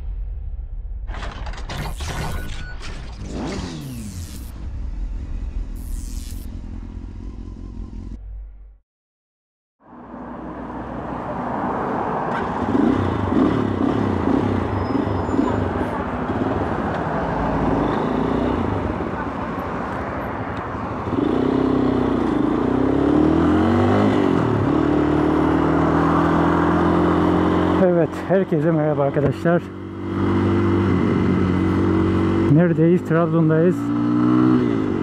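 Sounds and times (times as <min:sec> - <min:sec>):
street traffic: 0:02.8 - 0:08.8, 0:09.8 - 0:35.0.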